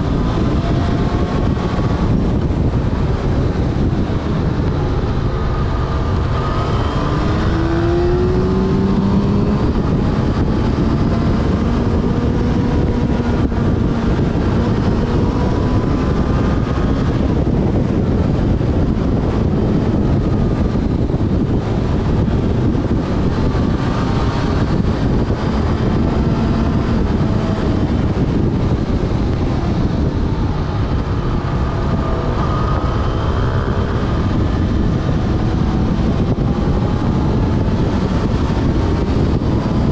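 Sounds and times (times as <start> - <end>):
motorcycle engine revving: 0.0 - 39.9
wind rushing on microphone: 0.0 - 39.9.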